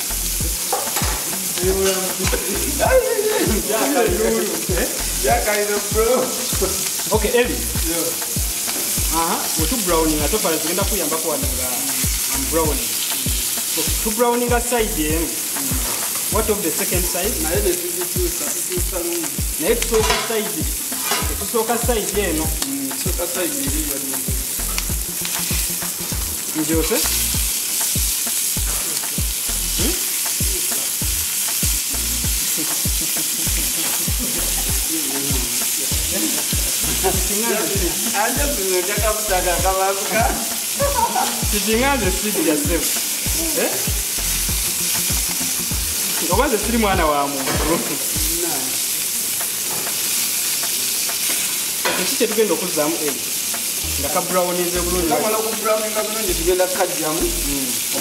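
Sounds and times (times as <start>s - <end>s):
chicken sizzling in hot oil: 0.0s - 58.0s.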